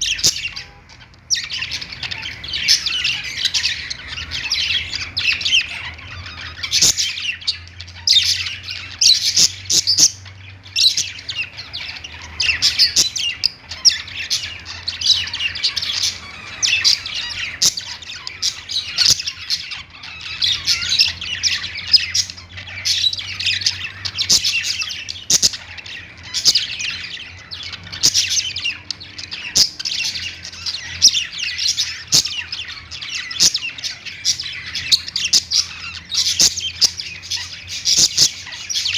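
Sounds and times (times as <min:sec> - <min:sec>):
budgerigars chattering and warbling: 0:00.0 - 0:38.9
sharp bird chirps and squawks: 0:00.0 - 0:38.9.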